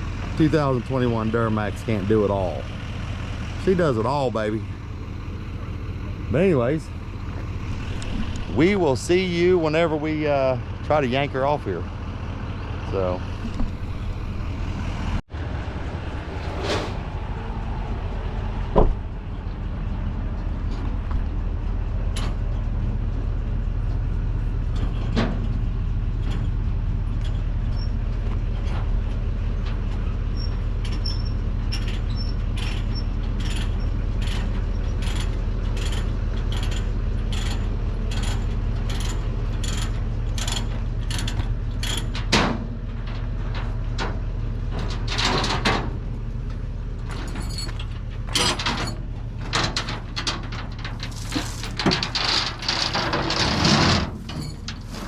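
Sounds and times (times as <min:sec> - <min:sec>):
truck rumbling on road: 0:00.0 - 0:55.0.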